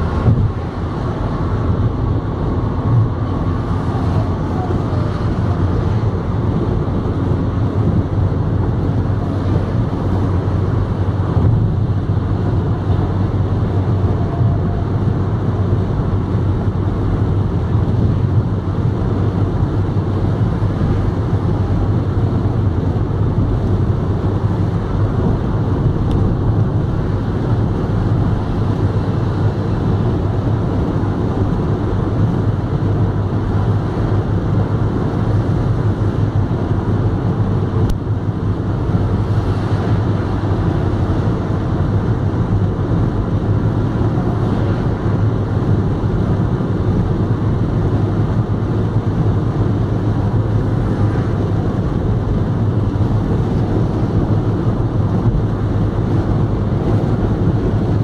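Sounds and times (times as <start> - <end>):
car road noise inside cabin: 0.0 - 58.0.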